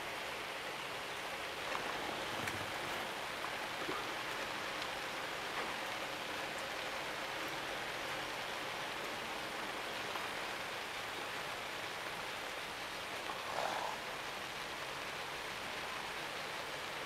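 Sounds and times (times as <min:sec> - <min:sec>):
rain hissing: 0:00.0 - 0:16.6.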